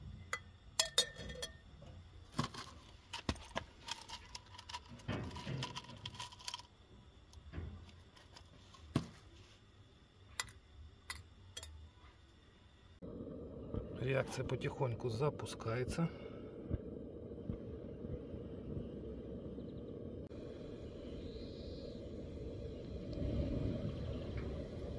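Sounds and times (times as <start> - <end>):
faint hiss: 1.8 - 24.9.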